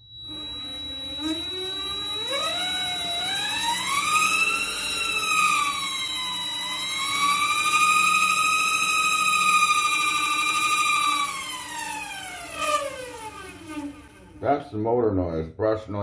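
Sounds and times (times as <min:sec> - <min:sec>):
lathe motor howling whine: 0:00.0 - 0:14.5
steady high whistle: 0:00.0 - 0:14.5.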